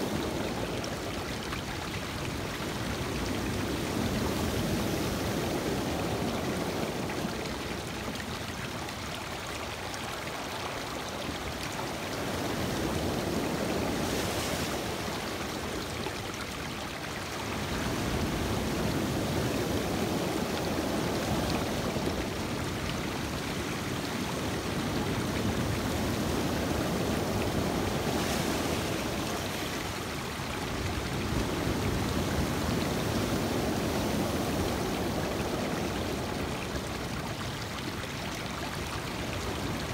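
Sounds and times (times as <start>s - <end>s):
waves washing over stony beach: 0.0s - 39.9s.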